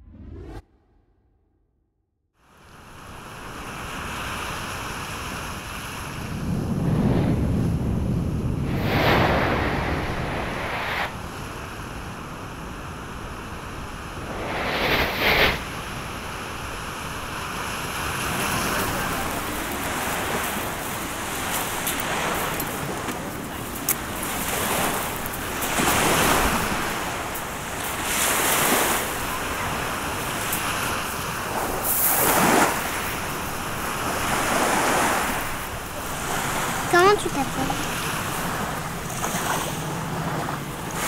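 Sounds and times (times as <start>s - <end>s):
small waves breaking on beach: 2.5s - 7.2s, 8.6s - 41.0s.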